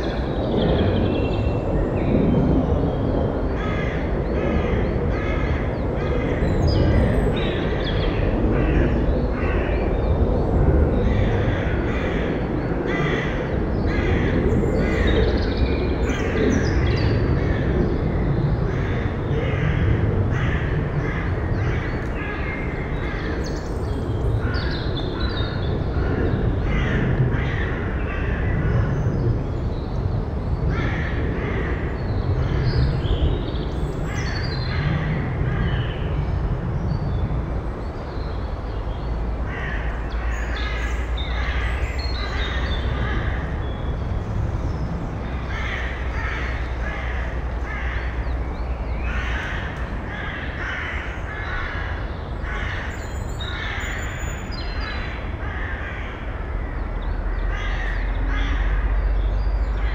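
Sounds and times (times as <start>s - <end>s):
harsh bird calls: 0.0s - 59.9s.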